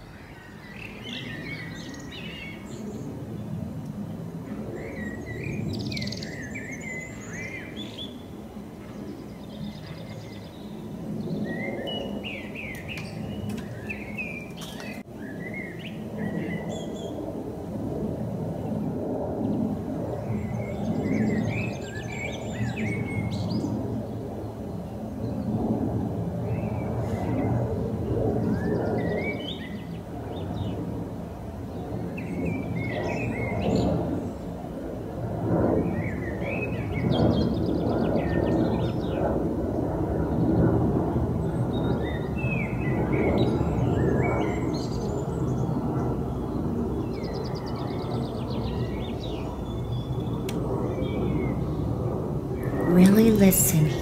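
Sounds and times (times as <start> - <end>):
airplane passing rumble: 0.0 - 52.9.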